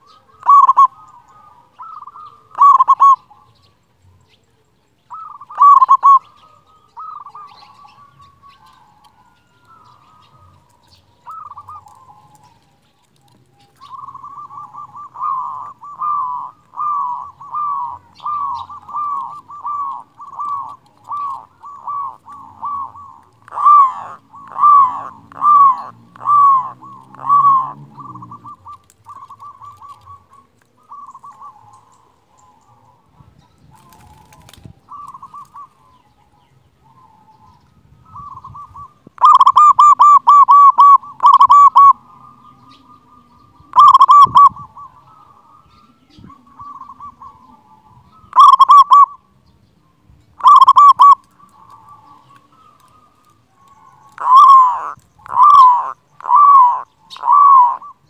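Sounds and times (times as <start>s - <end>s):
dove cooing: 0.0s - 49.4s, 50.4s - 58.0s.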